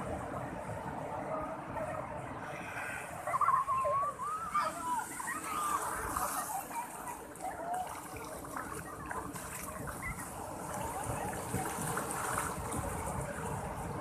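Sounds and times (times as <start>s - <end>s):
waves breaking on sandy beach: 0.0s - 14.0s.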